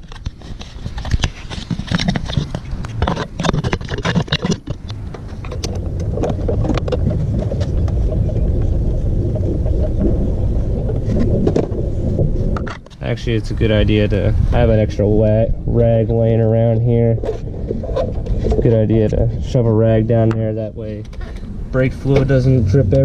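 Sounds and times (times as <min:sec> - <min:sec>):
steady low rumble: 0:02.0 - 0:23.0.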